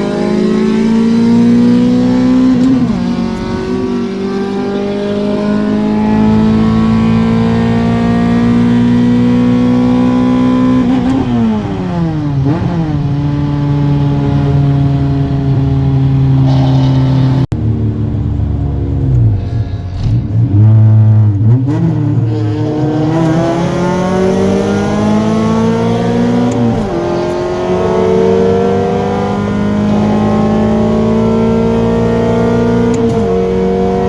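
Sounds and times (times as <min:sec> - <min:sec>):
car engine revving under load: 0:00.0 - 0:34.0.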